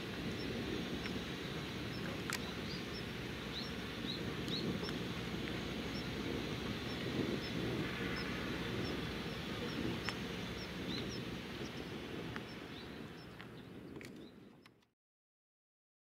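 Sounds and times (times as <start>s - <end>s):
low rumbling noise: 0.0s - 14.6s.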